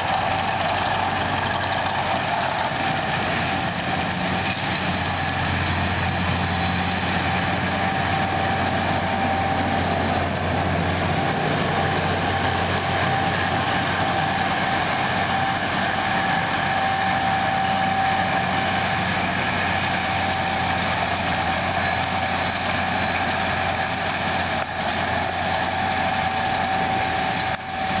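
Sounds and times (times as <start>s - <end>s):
steady high whine: 0.0s - 28.0s
tractor diesel engine running: 0.0s - 28.0s.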